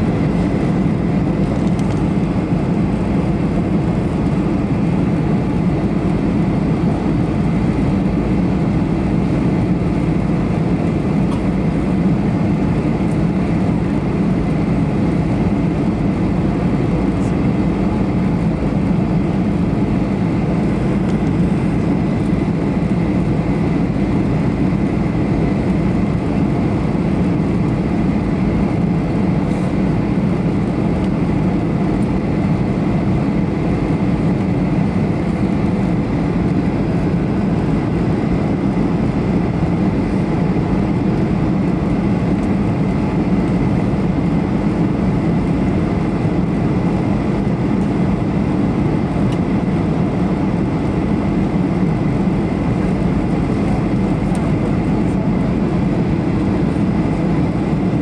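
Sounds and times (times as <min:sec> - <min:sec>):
aircraft cabin engine rush: 0:00.0 - 0:58.0.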